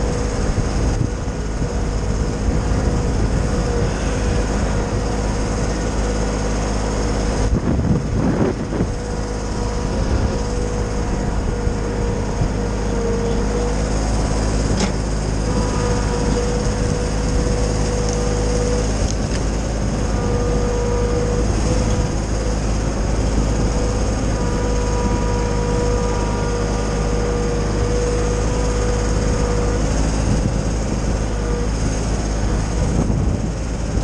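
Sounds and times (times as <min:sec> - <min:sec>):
tractor and wood chipper whining: 0:00.0 - 0:34.0.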